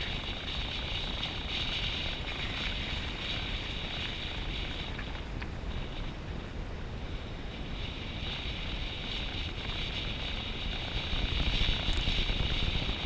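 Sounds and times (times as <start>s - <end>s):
continuous low rumble: 0.0s - 13.0s
wind buffeting microphone: 0.0s - 13.0s.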